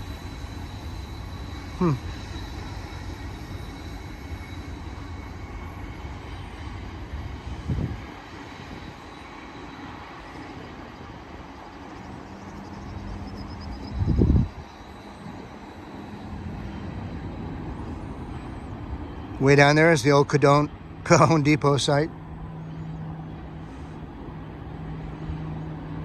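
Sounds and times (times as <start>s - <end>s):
low rumble of distant vehicles: 0.0s - 26.0s.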